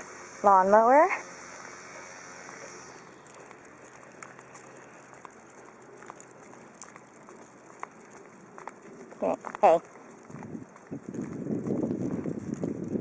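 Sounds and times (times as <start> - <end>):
faint steady background noise: 0.0 - 12.6
footsteps and dog paws on asphalt: 0.0 - 13.0.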